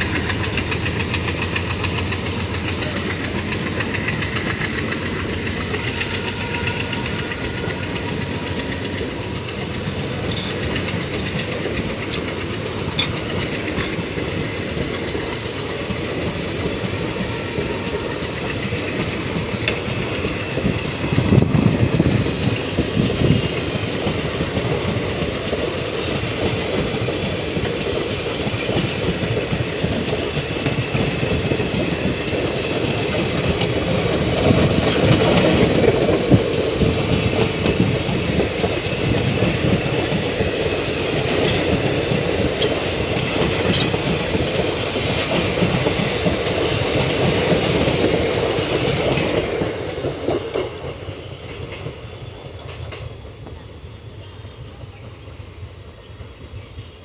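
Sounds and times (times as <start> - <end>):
train wheels clattering over rail joints: 0.0 - 53.8.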